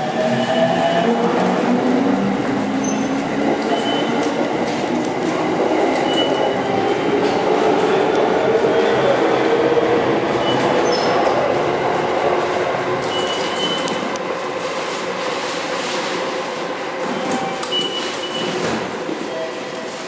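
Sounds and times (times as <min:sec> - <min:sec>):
train rumbling on tracks: 0:00.0 - 0:20.0.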